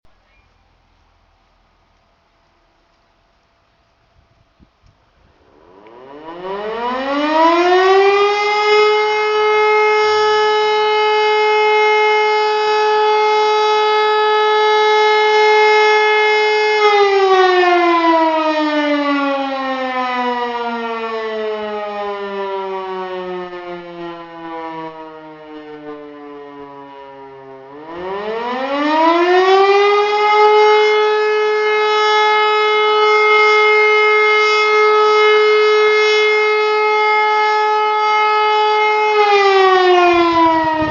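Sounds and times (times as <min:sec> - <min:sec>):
electric motor siren: 0:05.2 - 0:40.9.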